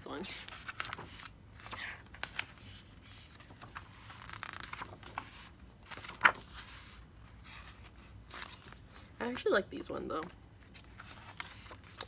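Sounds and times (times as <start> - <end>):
book pages turning: 0.3 - 9.4, 10.2 - 12.0.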